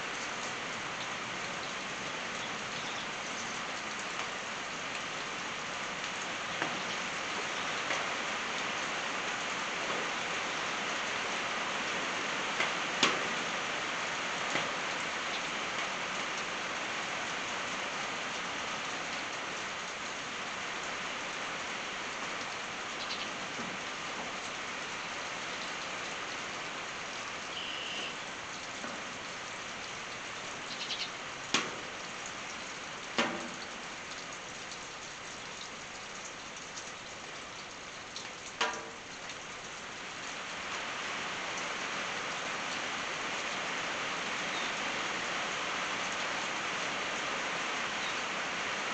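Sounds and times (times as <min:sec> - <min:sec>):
rain on a tin roof: 0:00.0 - 0:48.9.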